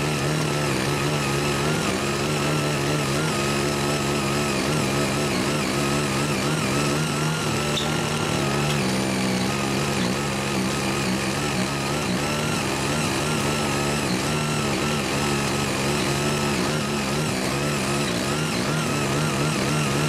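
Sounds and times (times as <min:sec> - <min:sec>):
rotary tiller engine droning: 0:00.0 - 0:20.0.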